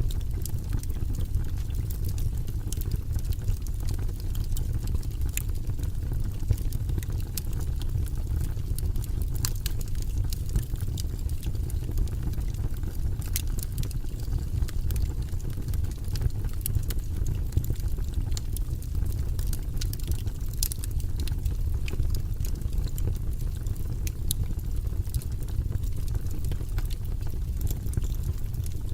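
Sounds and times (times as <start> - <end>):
campfire crackling: 0.1 - 28.9.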